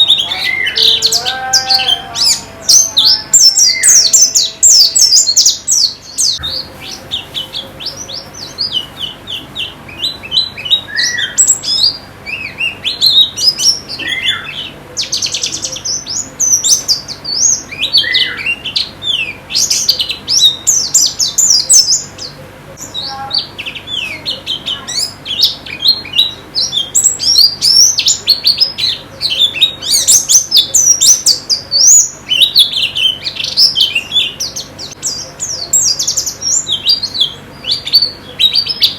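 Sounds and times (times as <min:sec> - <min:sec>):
birds twittering: 0:00.0 - 0:38.9.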